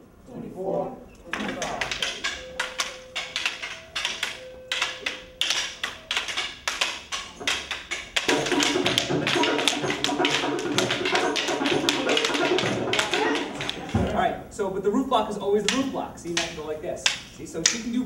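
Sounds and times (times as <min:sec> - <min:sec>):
sticks clacking together: 0:01.2 - 0:14.2, 0:15.6 - 0:17.9.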